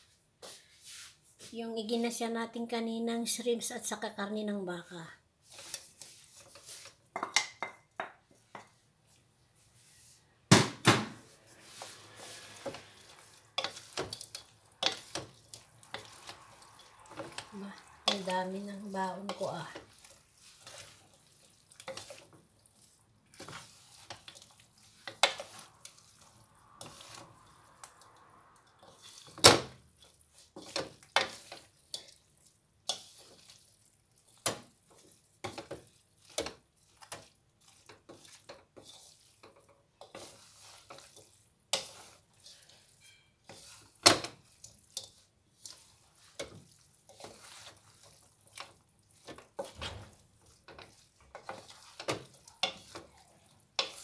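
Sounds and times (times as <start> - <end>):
wooden utensils knocking and scraping wok: 5.4 - 8.9, 10.5 - 54.0.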